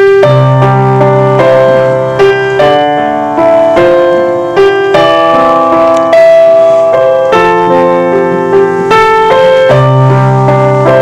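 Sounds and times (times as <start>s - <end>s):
electronic keyboard playing chords: 0.0s - 11.0s.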